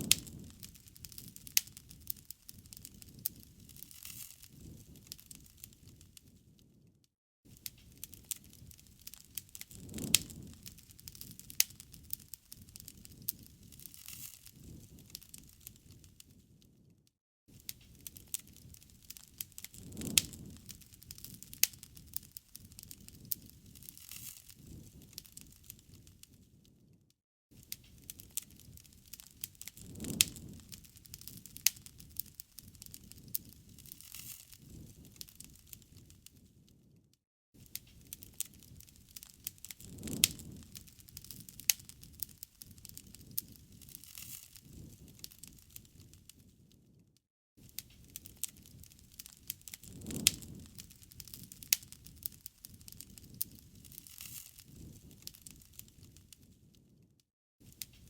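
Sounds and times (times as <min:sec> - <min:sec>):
campfire crackling and popping: 0:00.0 - 0:06.8, 0:07.5 - 0:37.0, 0:37.6 - 0:47.0, 0:47.6 - 0:57.0, 0:57.6 - 0:58.0
low rush of flame: 0:00.0 - 0:06.9, 0:07.5 - 0:27.0, 0:27.6 - 0:37.0, 0:37.6 - 0:46.6, 0:47.6 - 0:57.0.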